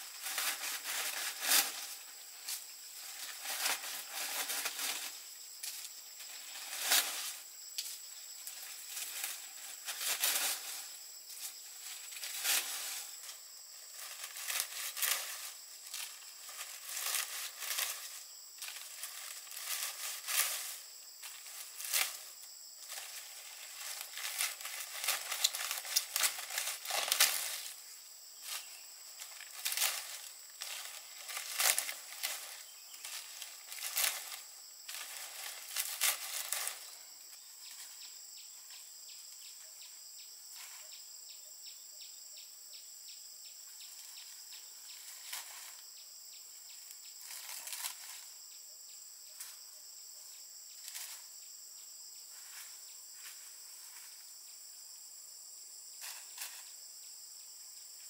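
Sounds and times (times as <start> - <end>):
dry palm leaves rustling: 0.0 - 39.0, 40.5 - 40.9, 43.6 - 46.2, 46.8 - 48.5, 50.8 - 51.4, 52.3 - 54.4, 56.0 - 56.7
high insect chorus: 0.0 - 58.0.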